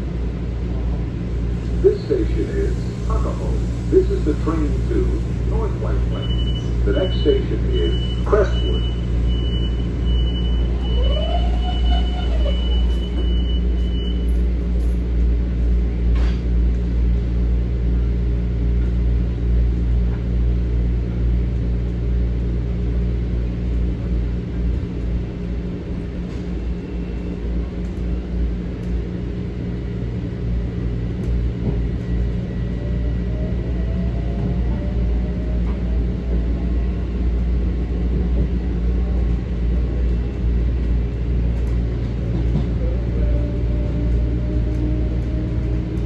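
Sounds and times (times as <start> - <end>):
train interior rumble and hum: 0.0 - 46.0.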